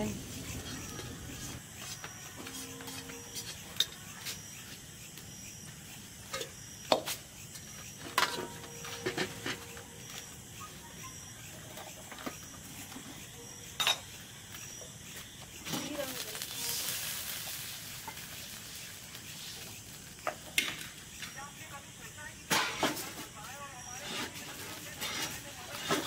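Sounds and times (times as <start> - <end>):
insect chirping: 0.0 - 26.0.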